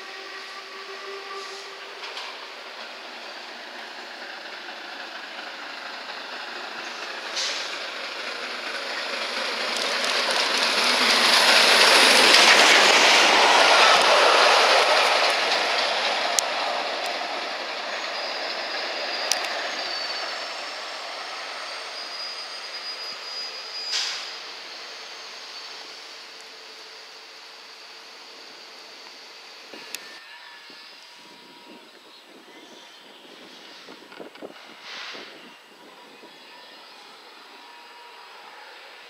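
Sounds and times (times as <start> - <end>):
high wheel squeal: 0.0 - 39.0
train wheel and rail noise: 0.0 - 39.0.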